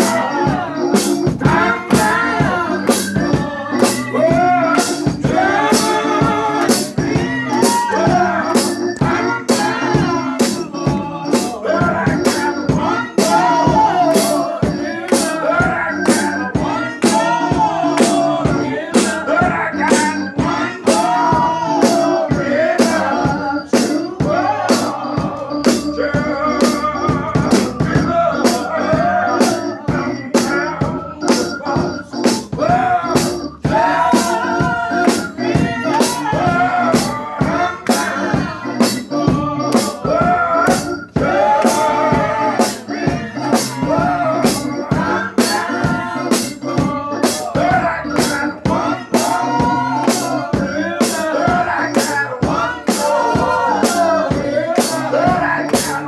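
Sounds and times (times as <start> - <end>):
man singing gospel: 0.0 - 56.0
voices singing along: 0.0 - 56.0.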